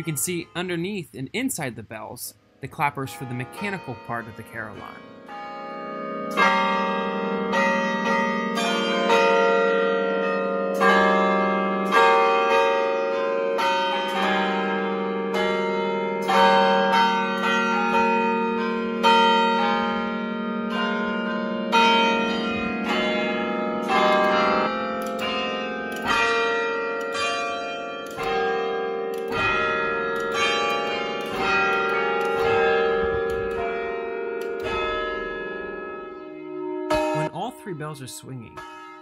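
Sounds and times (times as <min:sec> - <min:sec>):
large tower bells ringing: 0:00.0 - 0:39.0.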